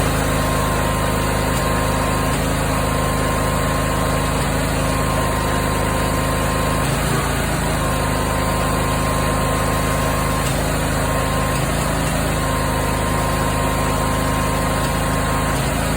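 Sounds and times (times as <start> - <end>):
engine running: 0.0 - 15.9.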